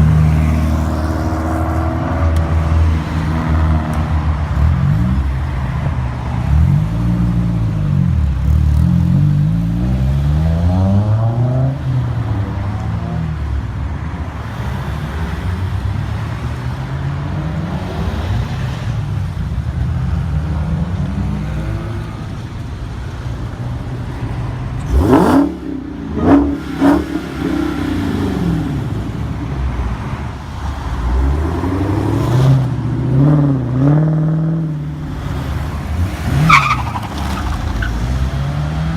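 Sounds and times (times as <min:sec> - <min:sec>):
car engines revving and accelerating: 0:00.0 - 0:38.9.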